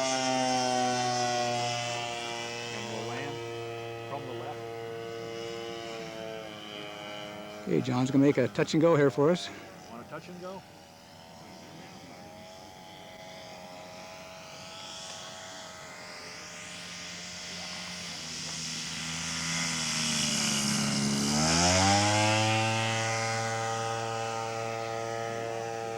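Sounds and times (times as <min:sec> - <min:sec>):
model plane engine revving: 0:00.0 - 0:25.9.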